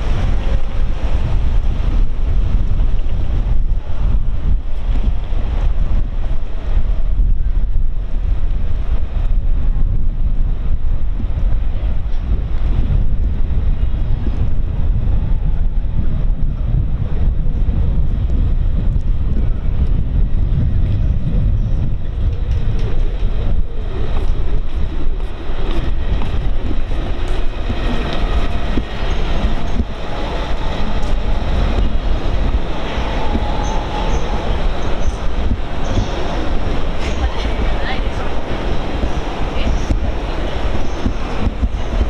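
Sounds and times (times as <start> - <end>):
city street noise: 0.0 - 42.0
wind rumbling on microphone: 0.0 - 42.0.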